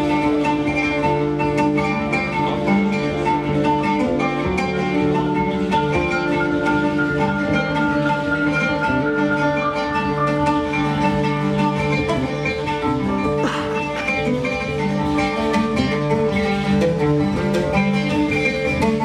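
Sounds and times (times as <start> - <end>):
guitar: 0.0 - 19.0
percussion: 0.0 - 19.0.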